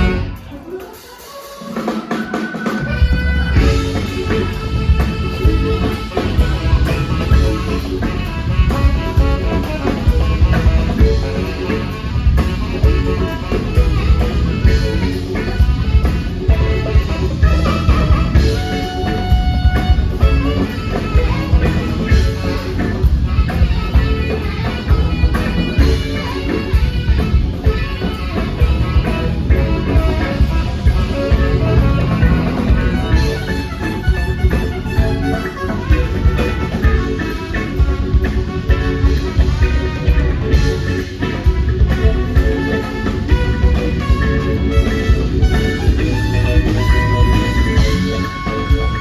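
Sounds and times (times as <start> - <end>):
drum kit beat: 0.0 - 49.0
hammond organ: 0.0 - 49.0
live band instrumental: 0.0 - 49.0.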